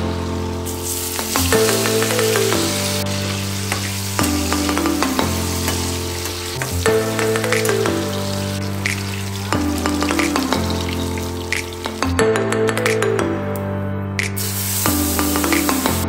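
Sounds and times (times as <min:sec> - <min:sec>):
food sizzling in a pan: 0:00.0 - 0:12.1, 0:14.4 - 0:16.0
background music: 0:00.0 - 0:16.0.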